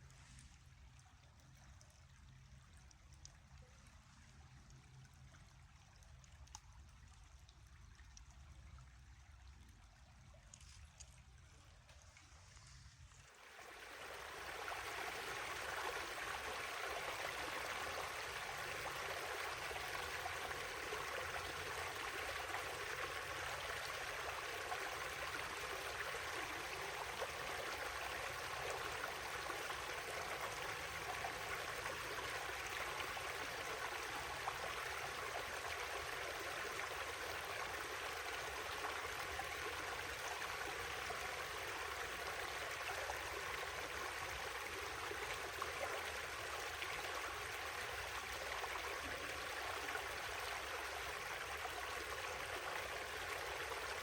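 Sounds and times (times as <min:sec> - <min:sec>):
river water flowing: 0:09.5 - 0:54.0.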